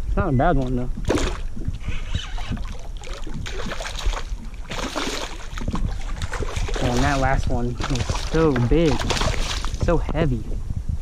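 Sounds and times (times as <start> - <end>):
fish splashing and thrashing: 0.6 - 10.0.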